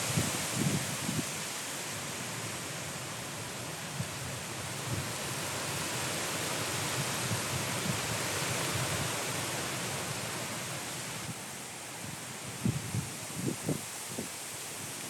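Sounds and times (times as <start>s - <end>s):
wind buffeting microphone: 0.0s - 2.6s, 3.5s - 15.0s
gusty wind rushing: 0.0s - 2.7s, 3.5s - 15.0s.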